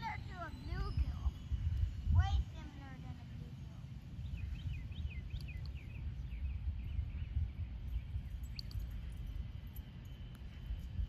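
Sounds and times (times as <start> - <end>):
bird chirping: 0.0 - 2.7, 3.5 - 10.8
wind rumbling on microphone: 0.0 - 11.0.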